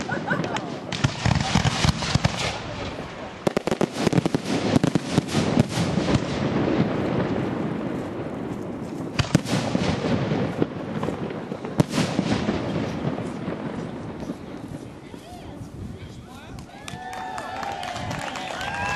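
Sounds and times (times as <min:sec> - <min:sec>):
firework crackling: 0:00.0 - 0:18.9.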